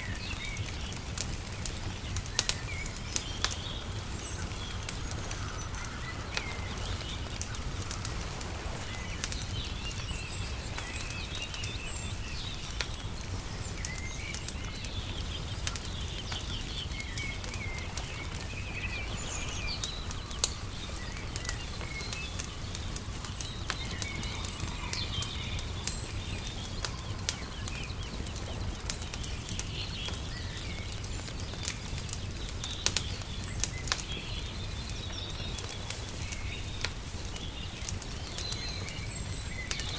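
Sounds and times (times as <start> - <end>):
small birds chirping: 0.0 - 39.9
wood fire crackling: 0.0 - 39.9.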